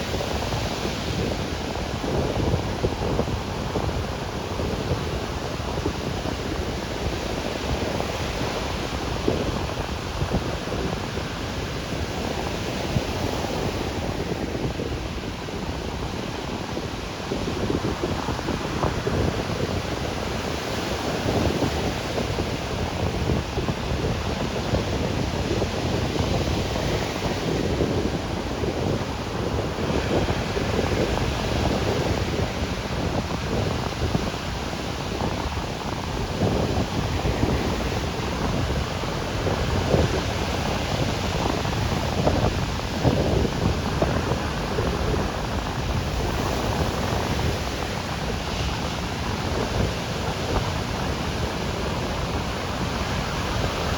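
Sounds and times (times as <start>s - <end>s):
ocean surf breaking on beach: 0.0s - 53.9s
wind buffeting microphone: 0.0s - 53.9s.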